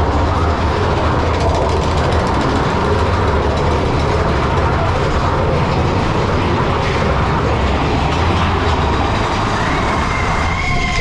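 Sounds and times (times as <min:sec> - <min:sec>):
roller coaster train rumbling: 0:00.0 - 0:11.0.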